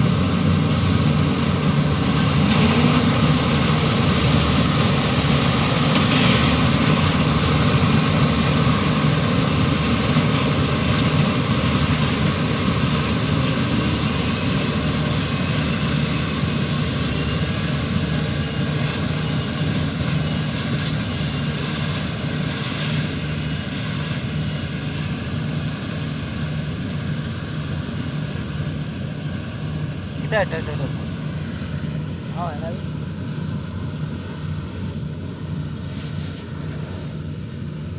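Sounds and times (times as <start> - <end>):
combine harvester engine hum: 0.0 - 37.9.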